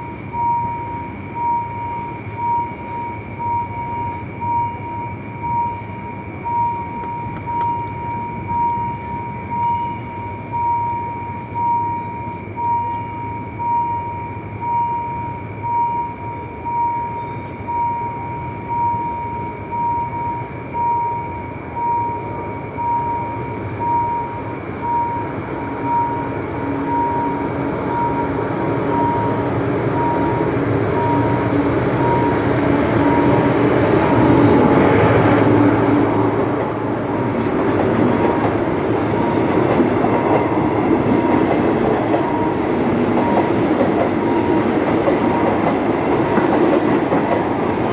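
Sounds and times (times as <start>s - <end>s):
level-crossing bell dinging: 0.0s - 20.2s, 20.8s - 36.2s, 37.3s - 47.9s
train rumble and wheel clatter: 0.0s - 47.9s.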